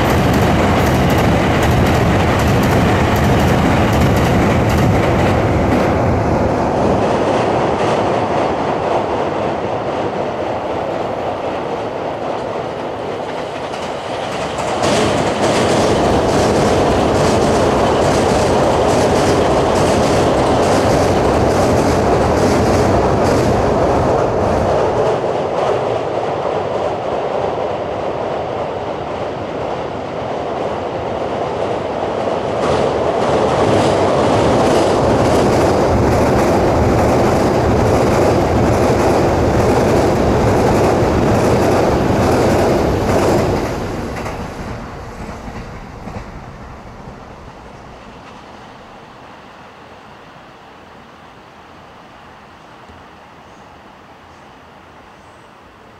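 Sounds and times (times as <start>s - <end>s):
train wheels clattering on bridge: 0.0s - 28.6s, 29.2s - 48.5s.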